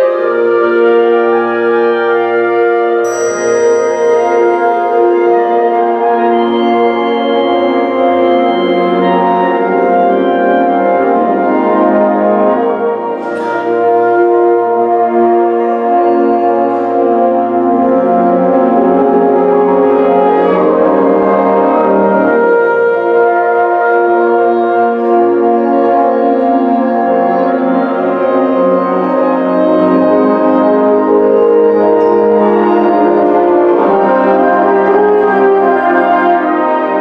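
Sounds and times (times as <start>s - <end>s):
wind band sustained chords: 0.0s - 37.0s.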